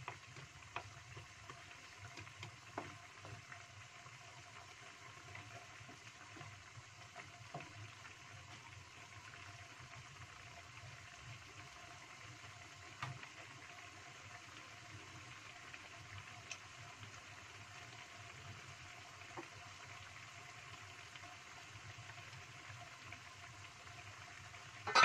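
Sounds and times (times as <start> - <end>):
broth bubbling in a wok: 0.0 - 25.0.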